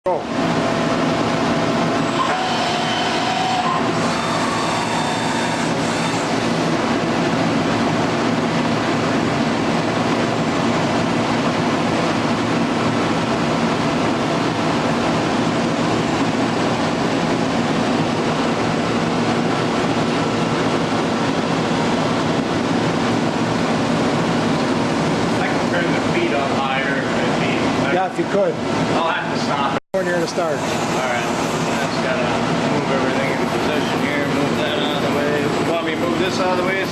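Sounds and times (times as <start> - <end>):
mechanical rumble and hiss: 0.1 - 36.9.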